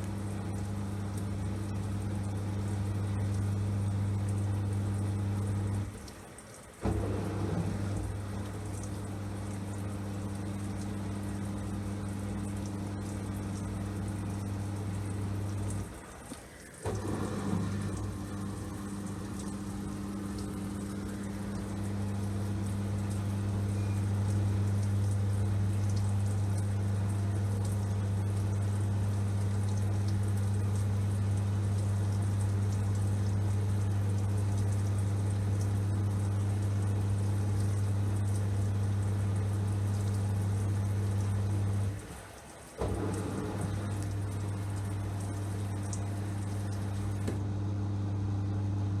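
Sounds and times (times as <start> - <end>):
water draining from drum: 0.0 - 47.6
drain pump humming: 0.0 - 49.0.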